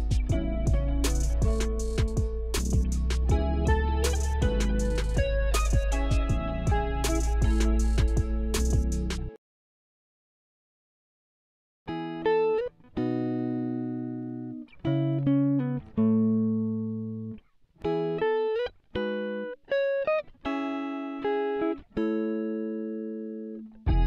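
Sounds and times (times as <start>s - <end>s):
plucked chords music: 0.0s - 9.4s, 11.9s - 24.0s.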